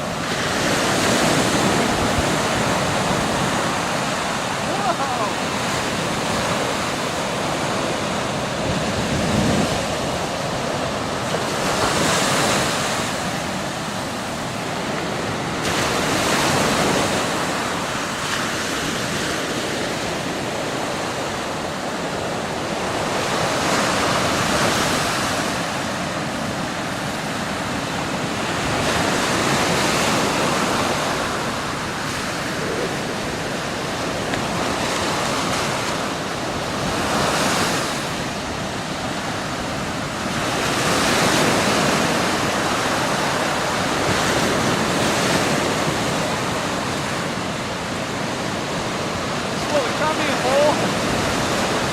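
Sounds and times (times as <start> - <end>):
surf breaking on beach: 0.0 - 51.9
wind buffeting microphone: 0.0 - 51.9.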